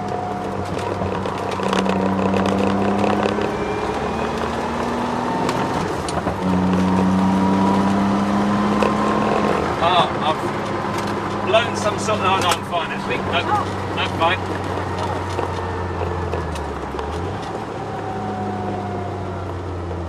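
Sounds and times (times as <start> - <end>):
car engine pulling under load: 0.0 - 20.0.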